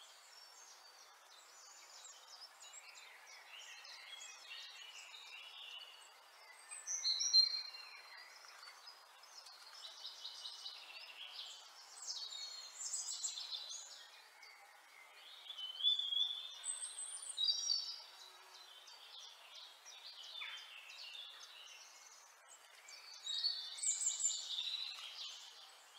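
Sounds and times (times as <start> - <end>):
faint steady hiss: 0.0 - 25.9
songbirds chirping and trilling: 0.0 - 25.9.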